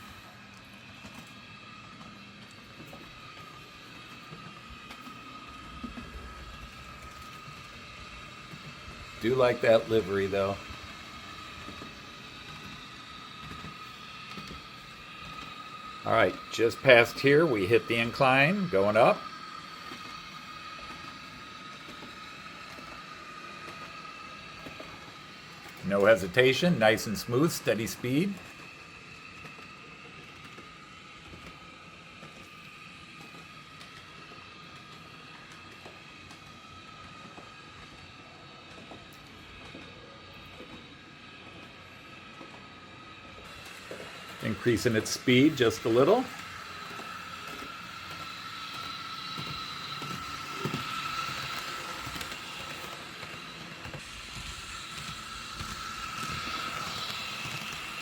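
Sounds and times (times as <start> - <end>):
model train motor whine: 0.0 - 58.0
wheels rumbling on track: 0.0 - 58.0.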